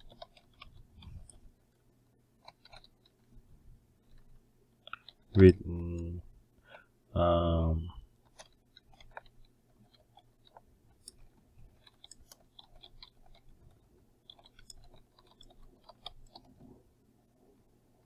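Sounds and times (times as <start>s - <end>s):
faint keyboard typing: 0.0s - 16.8s.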